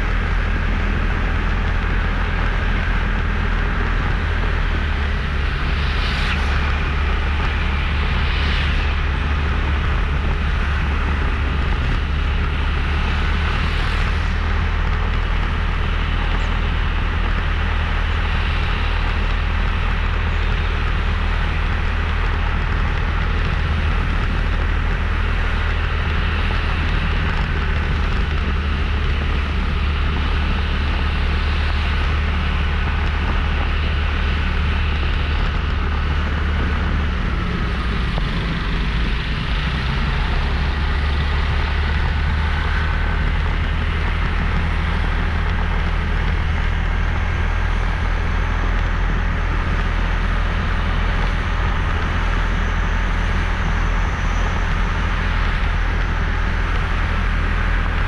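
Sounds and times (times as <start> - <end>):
motorbike engine rumble: 0.0 - 58.0
wind noise: 0.0 - 58.0.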